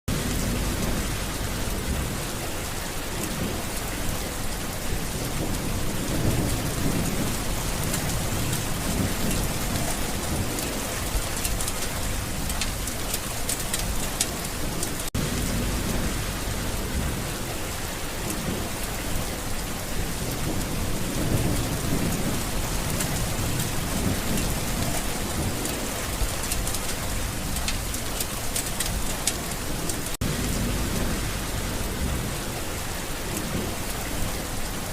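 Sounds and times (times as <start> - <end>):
heavy rain hissing and pattering: 0.1 - 34.9
low rumbles of thunder: 0.1 - 34.9.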